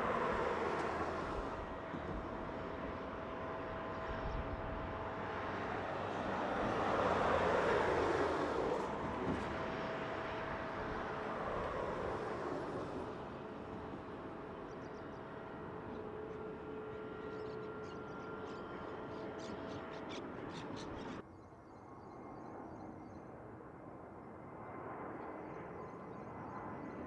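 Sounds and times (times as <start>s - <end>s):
jet airliner passing: 0.0s - 21.2s, 21.9s - 27.0s.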